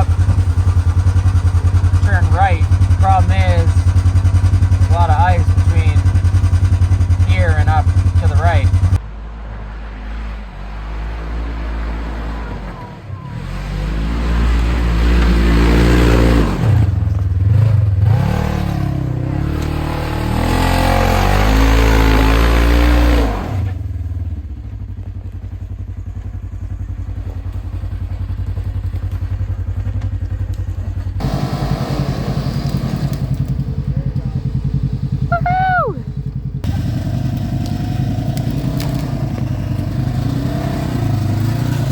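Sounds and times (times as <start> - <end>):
engine revving and idling: 0.0 - 41.9.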